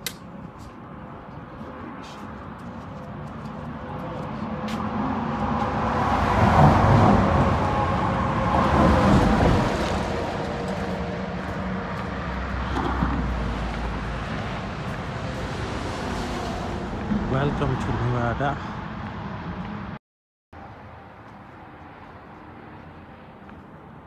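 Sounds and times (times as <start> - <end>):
highway traffic rushing: 0.0 - 20.0, 20.6 - 24.0.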